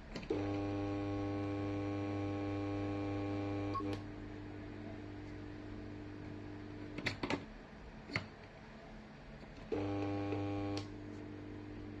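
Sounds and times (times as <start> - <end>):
fluorescent lamp buzzing: 0.0 - 7.3, 9.6 - 12.0.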